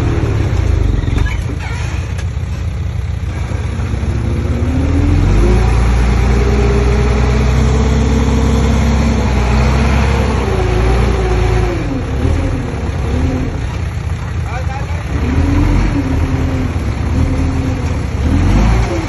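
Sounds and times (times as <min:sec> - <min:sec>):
bulldozer diesel engine revving: 0:00.0 - 0:19.0.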